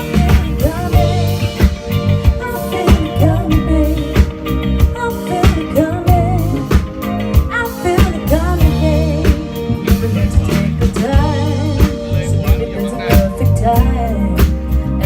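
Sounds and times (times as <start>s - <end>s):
soul music with lead singer: 0.0s - 15.0s.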